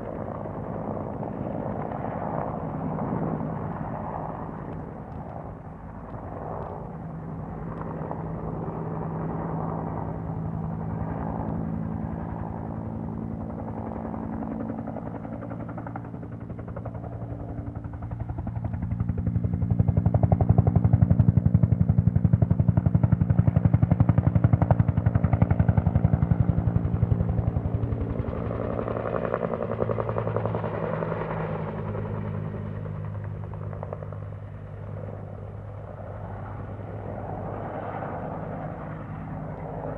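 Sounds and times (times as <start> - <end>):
helicopter flying over: 0.0 - 39.9.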